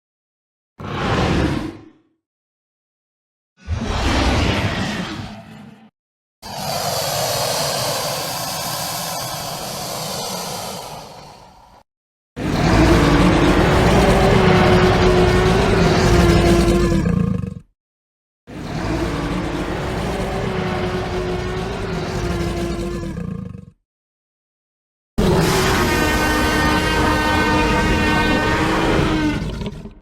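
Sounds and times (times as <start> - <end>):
dinosaur roar: 0.8 - 2.2, 3.6 - 11.8, 12.4 - 17.7, 18.5 - 23.8, 25.2 - 30.0.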